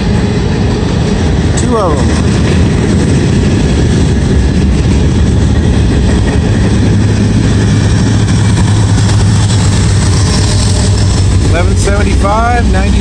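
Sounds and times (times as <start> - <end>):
low diesel locomotive hum: 0.0 - 13.0
train cars rolling on rails: 0.0 - 13.0.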